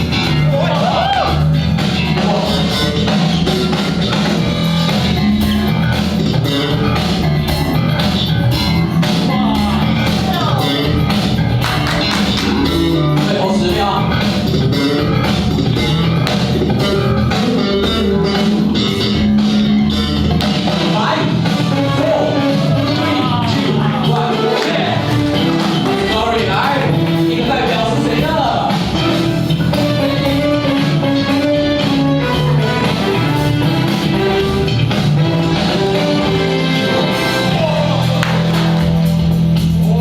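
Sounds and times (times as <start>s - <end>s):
loud funk music: 0.0s - 40.0s.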